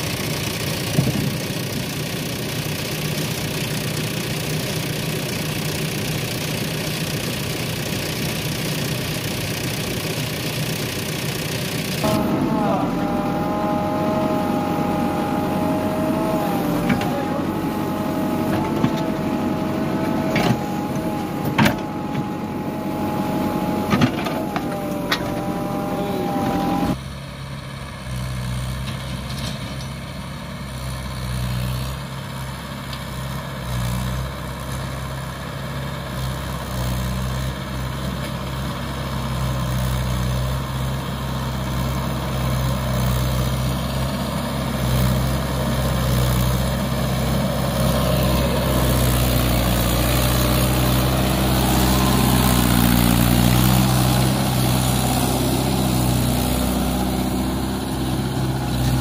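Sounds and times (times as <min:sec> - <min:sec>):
excavator engine and hydraulic whine: 0:00.0 - 0:59.0
tractor engine low hum: 0:00.0 - 0:59.0.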